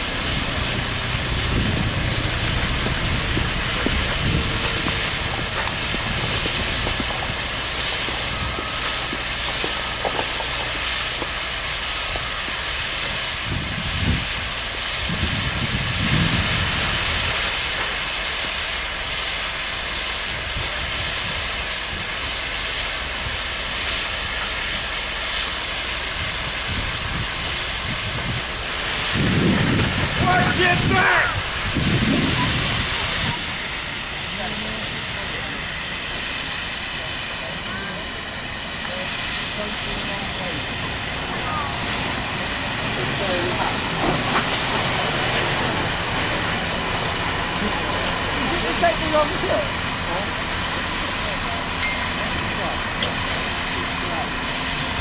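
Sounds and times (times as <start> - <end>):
diesel engine running: 0.0 - 55.0
steam locomotive hissing: 0.0 - 55.0.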